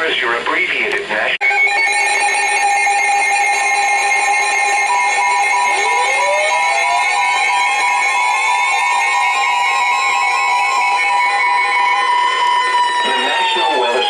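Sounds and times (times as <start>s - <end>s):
two-tone electronic alert tone: 1.5s - 14.0s
rising pitch glides: 1.8s - 14.0s.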